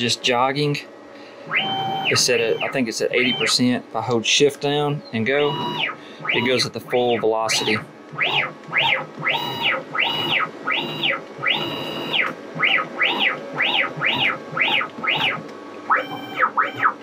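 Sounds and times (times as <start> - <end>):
stepper motors whining: 1.5 - 3.7, 5.1 - 17.0.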